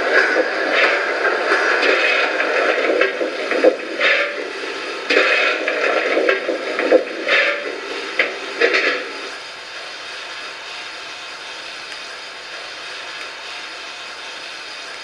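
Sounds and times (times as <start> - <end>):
steam locomotive sound hiss: 0.0 - 15.0.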